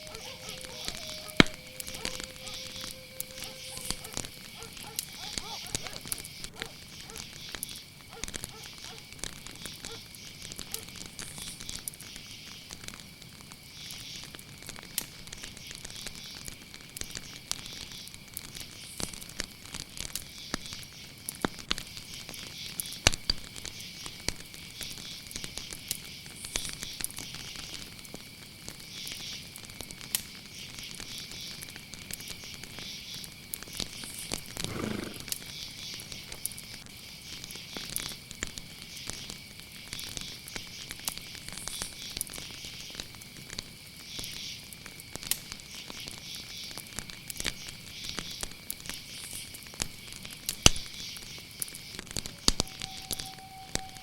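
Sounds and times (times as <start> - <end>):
campfire crackling and popping: 0.0 - 54.0
crickets chirring: 0.0 - 54.0.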